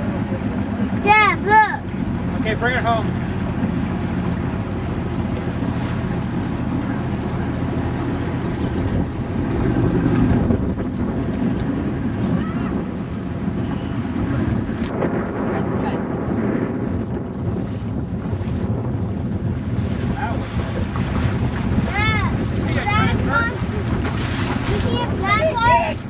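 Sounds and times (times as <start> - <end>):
boat motor running: 0.0 - 26.0
water splashing: 0.0 - 26.0
wind buffeting microphone: 0.0 - 26.0.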